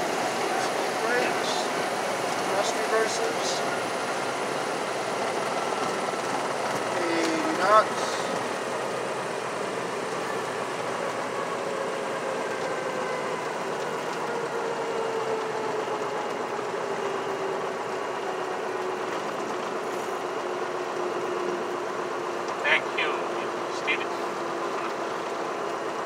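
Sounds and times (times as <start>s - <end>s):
light airplane engine and propeller: 0.0s - 26.0s.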